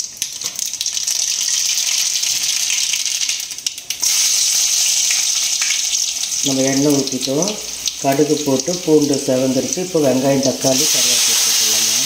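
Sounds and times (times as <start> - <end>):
garlic frying in oil: 0.0 - 12.0
seeds sizzling and popping in oil: 0.0 - 12.0.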